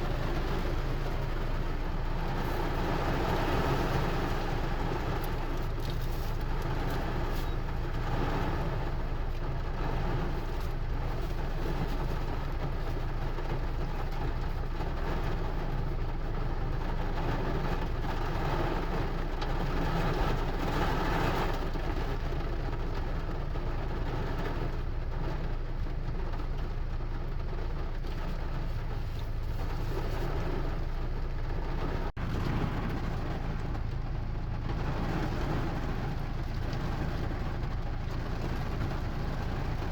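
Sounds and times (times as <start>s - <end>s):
heavy rain with low rumble: 0.0s - 39.9s.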